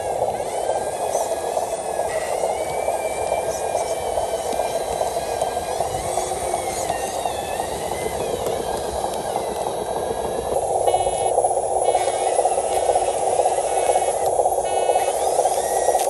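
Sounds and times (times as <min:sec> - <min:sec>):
electric motor whining: 0:00.0 - 0:16.0
steady hiss: 0:00.0 - 0:16.0.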